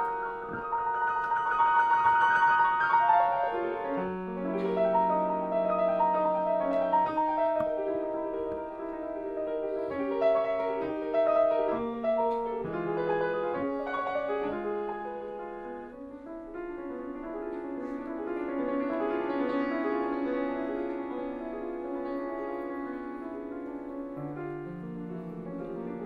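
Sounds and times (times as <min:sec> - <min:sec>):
solo piano piece: 0:00.0 - 0:26.0.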